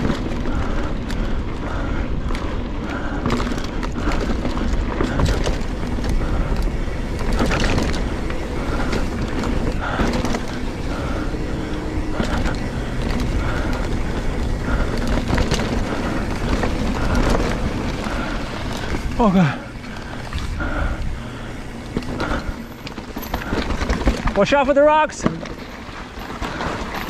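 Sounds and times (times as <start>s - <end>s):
bike chain and frame rattling: 0.0s - 27.0s
tyres rolling over dirt: 0.0s - 27.0s.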